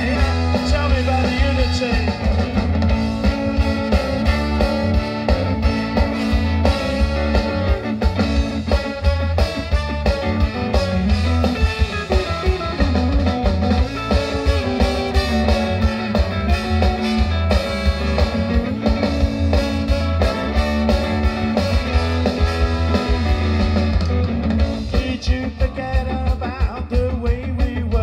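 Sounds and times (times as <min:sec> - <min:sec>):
saxophone: 0:00.0 - 0:24.9
trombone: 0:00.0 - 0:25.2
trumpet: 0:00.0 - 0:25.4
bass guitar: 0:00.0 - 0:28.0
drum kit: 0:00.0 - 0:28.0
electric guitar: 0:00.0 - 0:28.0.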